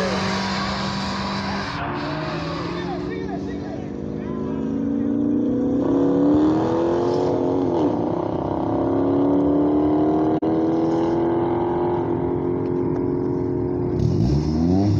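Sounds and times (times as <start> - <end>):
car engine revving high: 0.0 - 12.6, 13.9 - 14.9.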